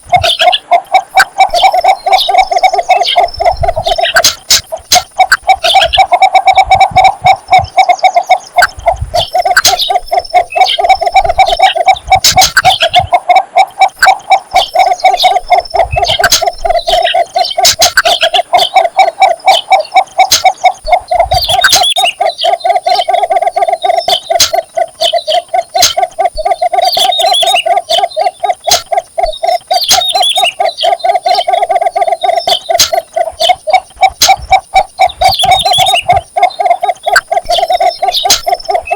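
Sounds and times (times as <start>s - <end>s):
bird chirps and clicks: 0.0s - 38.9s
bird low repeated notes: 0.0s - 38.9s.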